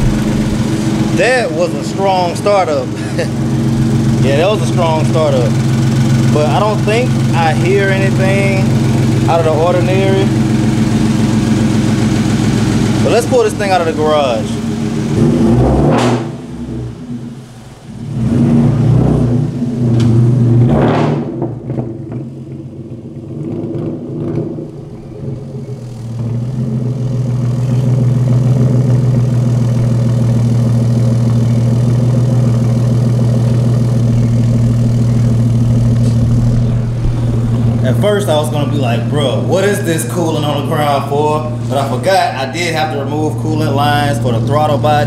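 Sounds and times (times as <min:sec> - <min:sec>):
car engine revving and idling: 0:00.0 - 0:45.0.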